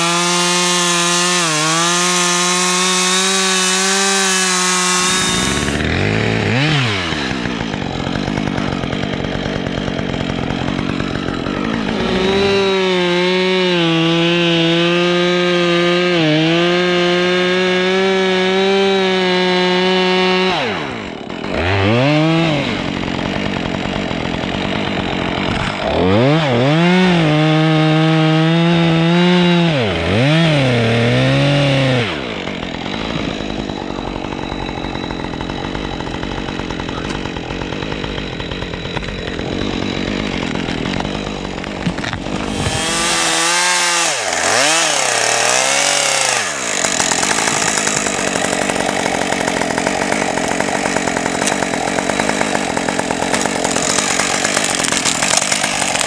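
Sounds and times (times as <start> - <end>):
chainsaw sawing into tree: 0.0 - 56.0.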